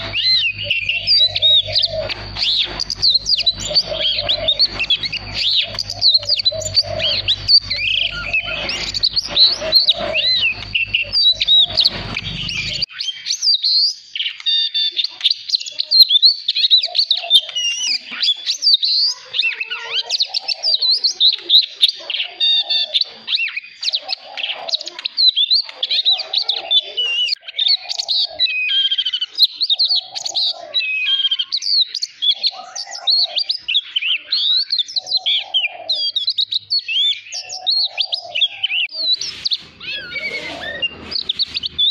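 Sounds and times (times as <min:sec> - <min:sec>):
bird singing whistles and warbles: 0:00.0 - 0:41.9.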